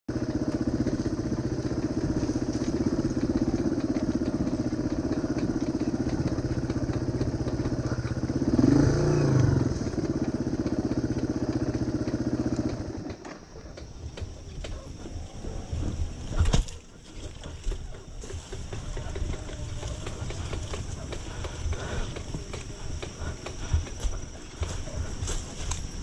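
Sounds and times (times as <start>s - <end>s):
motorcycle engine: 0.1s - 26.0s.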